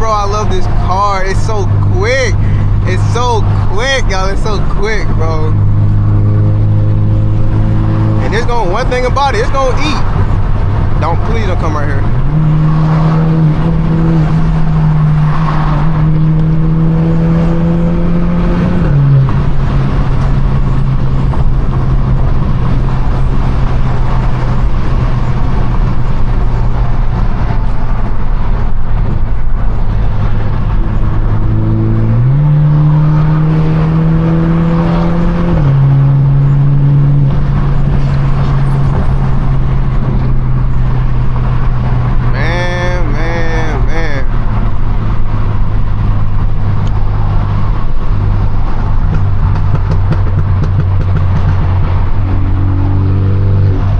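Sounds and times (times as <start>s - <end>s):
loud car exhaust drone: 0.0s - 53.9s.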